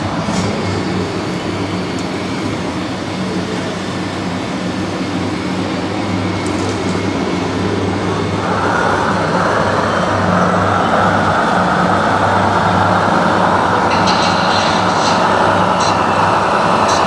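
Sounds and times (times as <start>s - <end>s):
model machines mechanical drone: 0.0s - 17.0s.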